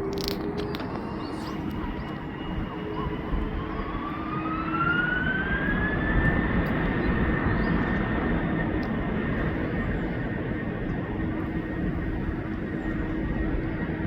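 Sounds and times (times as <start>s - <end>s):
jet engine whine: 0.0s - 14.0s.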